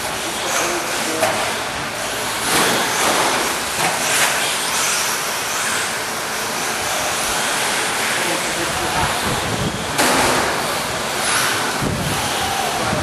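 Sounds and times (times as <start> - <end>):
radio-controlled trucks rushing: 2.2 - 13.0.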